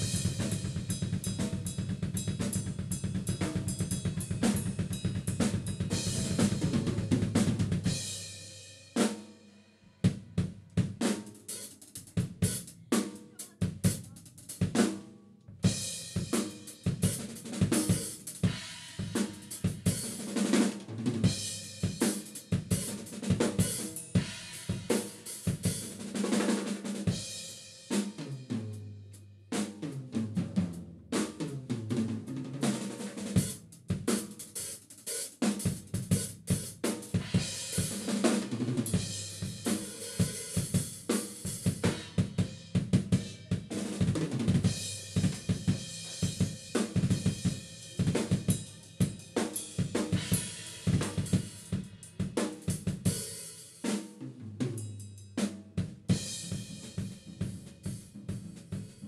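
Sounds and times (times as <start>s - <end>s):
drum kit solo: 0.0s - 59.0s.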